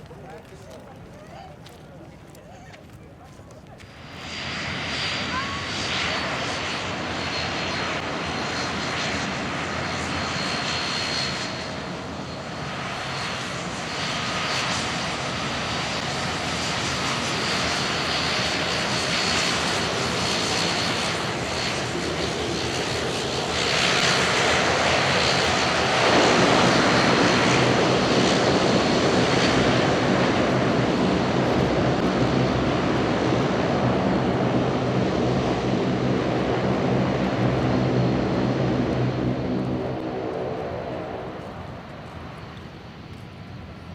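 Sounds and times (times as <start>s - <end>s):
low propeller hum: 0.0s - 43.9s
turboprop engines high whine: 0.0s - 43.9s.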